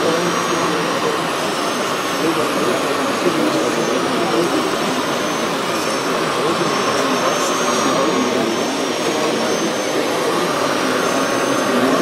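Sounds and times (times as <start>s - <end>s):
hydraulic pump whine and hiss: 0.0s - 12.0s.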